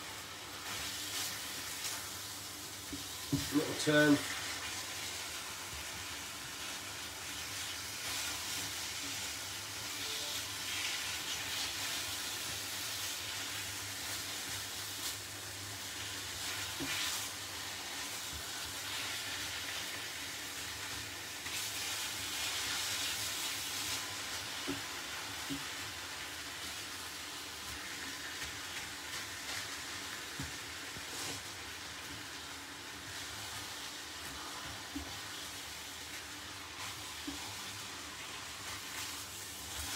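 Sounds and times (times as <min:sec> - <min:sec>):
steak sizzling in a frying pan: 0:00.0 - 0:39.9.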